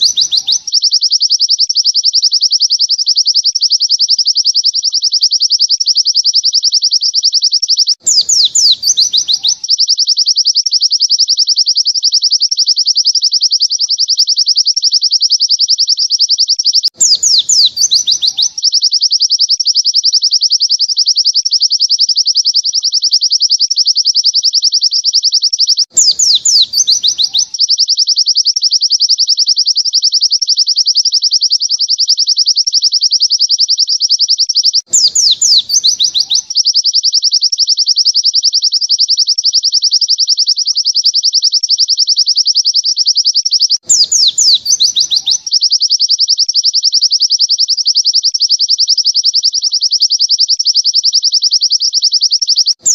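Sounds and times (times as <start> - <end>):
bird singing high fast trill: 0.0 - 52.9.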